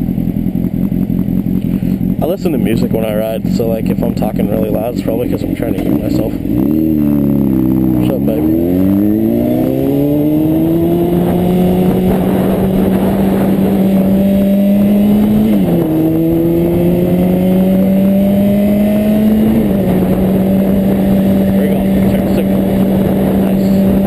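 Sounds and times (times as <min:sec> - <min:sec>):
motorcycle engine accelerating: 0:00.0 - 0:24.0
wind and road noise: 0:00.0 - 0:24.0.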